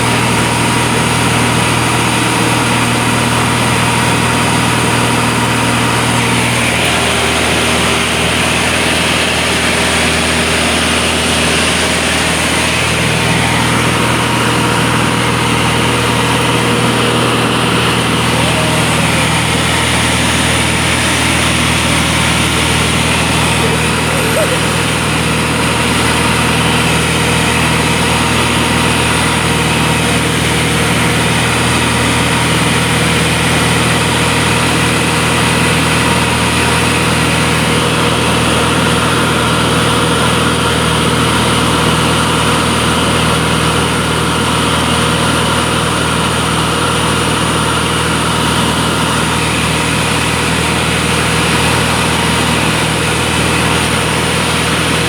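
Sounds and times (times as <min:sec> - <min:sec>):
aircraft engine drone in cabin: 0:00.0 - 0:55.0.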